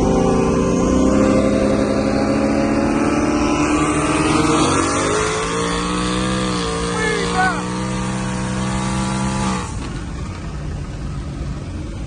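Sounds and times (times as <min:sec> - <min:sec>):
sports car engines accelerating: 0:00.0 - 0:12.0.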